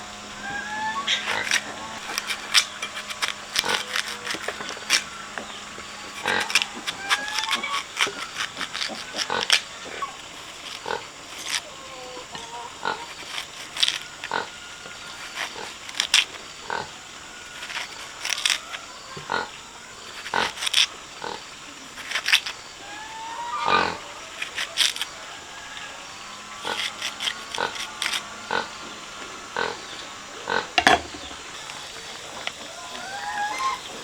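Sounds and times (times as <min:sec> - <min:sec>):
pigs grunting and squealing: 0:00.0 - 0:34.0.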